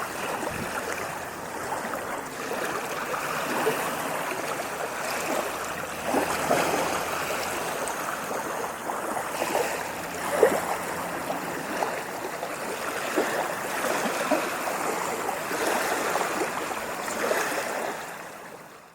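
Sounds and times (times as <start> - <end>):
ocean waves washing in: 0.0 - 18.8
water gurgles and splashes: 0.0 - 18.9.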